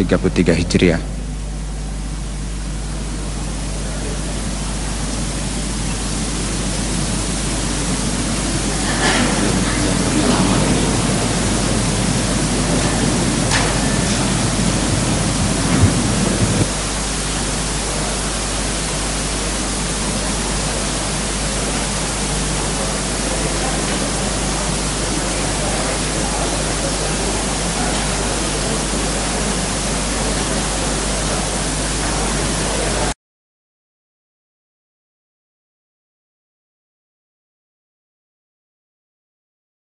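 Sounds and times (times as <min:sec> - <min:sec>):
low hum: 0:00.0 - 0:33.1
low room murmur: 0:00.0 - 0:33.2
recording hiss: 0:00.0 - 0:33.2.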